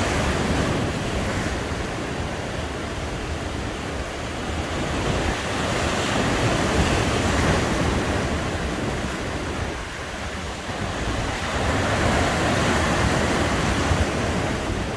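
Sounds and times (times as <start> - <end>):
sea waves breaking on a beach: 0.0 - 14.9
wind rumbling on microphone: 0.0 - 14.9.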